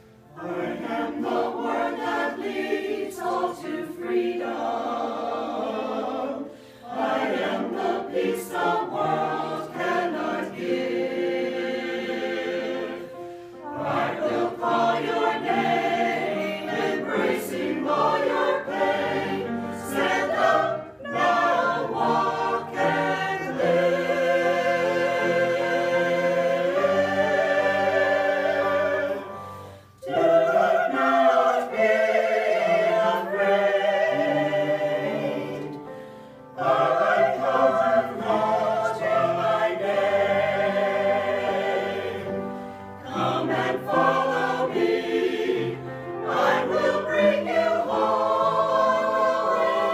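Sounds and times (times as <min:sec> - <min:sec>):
choir singing gospel: 0:00.0 - 0:49.9.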